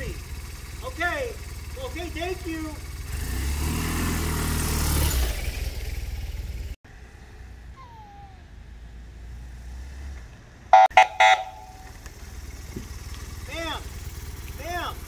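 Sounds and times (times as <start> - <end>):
motorcycle engine pulling away: 0.0 - 7.8, 8.4 - 15.0.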